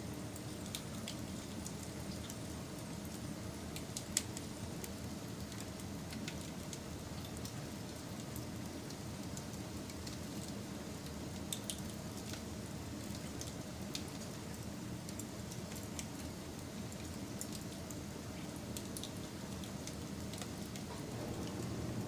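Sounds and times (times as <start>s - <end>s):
wood fire crackling: 0.3s - 22.0s.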